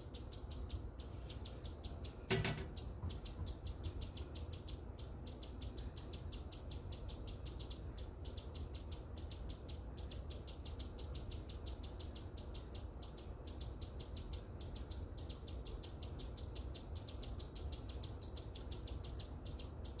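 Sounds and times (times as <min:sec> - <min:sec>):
hummingbird high-pitched chips: 0:00.0 - 0:20.0.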